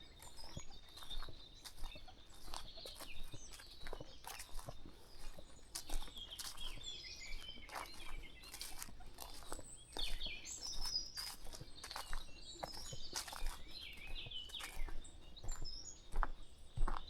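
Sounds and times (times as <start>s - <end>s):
footsteps on a path: 0.0s - 17.0s
small birds chirping: 0.0s - 17.0s.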